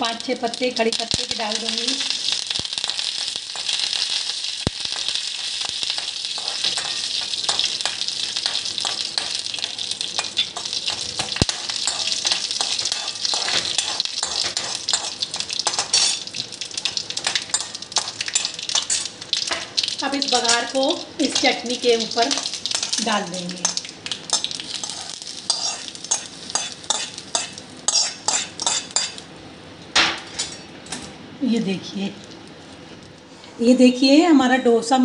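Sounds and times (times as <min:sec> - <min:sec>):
hot oil sizzling and crackling: 0:00.0 - 0:30.6.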